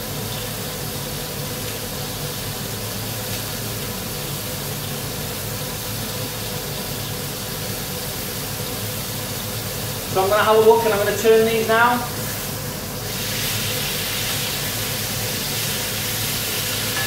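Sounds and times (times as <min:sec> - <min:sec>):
steaks sizzling in frying pan: 0:00.0 - 0:17.0.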